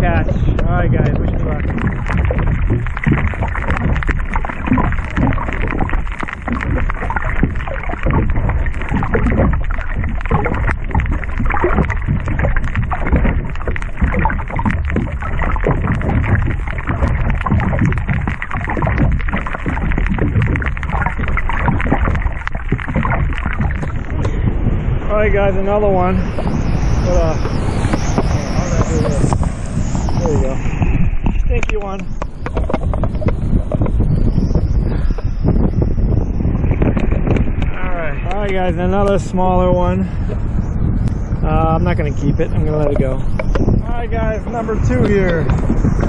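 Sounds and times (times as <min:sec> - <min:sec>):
small clicks and crackles: 0:00.0 - 0:24.4, 0:27.3 - 0:35.6, 0:36.6 - 0:40.1, 0:41.8 - 0:46.0
muffled underwater rush: 0:00.0 - 0:46.0.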